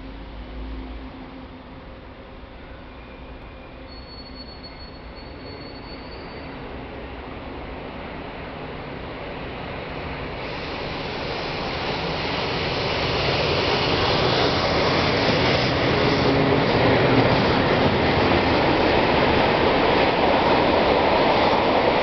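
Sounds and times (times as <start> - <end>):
diesel locomotive passing: 0.0 - 22.0.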